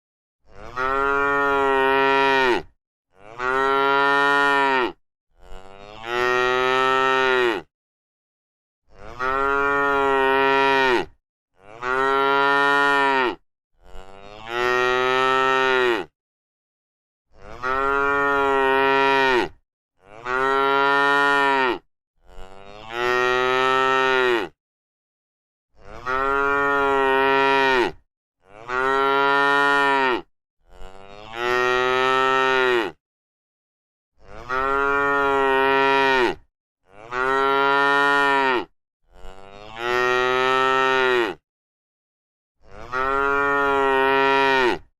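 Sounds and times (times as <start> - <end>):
cow mooing: 0.5 - 7.7, 8.9 - 16.1, 17.3 - 24.6, 25.8 - 33.0, 34.3 - 41.4, 42.7 - 44.9.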